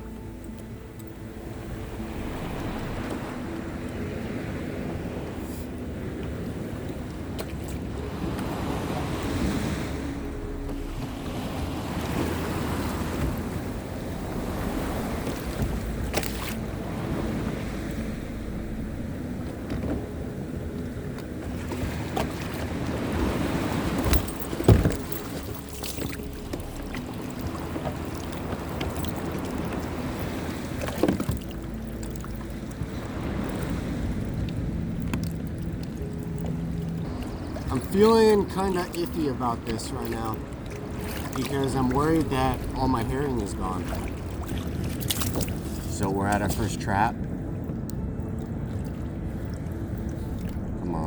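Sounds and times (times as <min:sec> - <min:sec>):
water washing along hull: 0:00.0 - 0:51.0.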